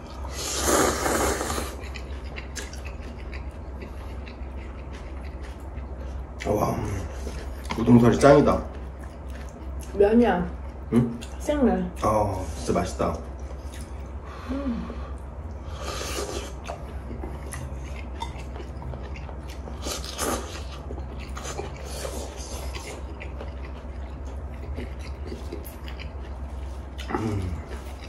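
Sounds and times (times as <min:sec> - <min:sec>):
wet chewing: 0:00.0 - 0:11.4, 0:13.0 - 0:14.2, 0:15.5 - 0:28.0.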